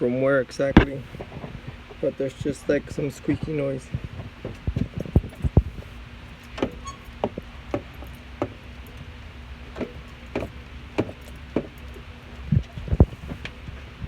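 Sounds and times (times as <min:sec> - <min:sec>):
truck suspension squeaking: 0:00.8 - 0:13.6.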